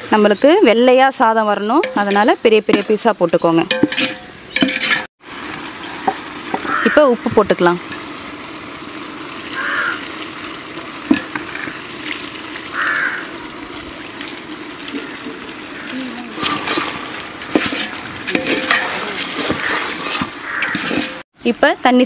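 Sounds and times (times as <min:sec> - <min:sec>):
masala sizzling in oil: 0:00.0 - 0:22.0.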